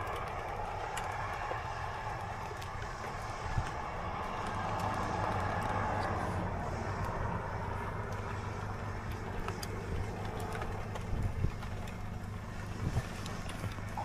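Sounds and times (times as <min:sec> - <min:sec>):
low engine drone: 0:00.0 - 0:14.0
sharp ticks: 0:00.0 - 0:14.0
vehicle road noise: 0:00.0 - 0:14.0.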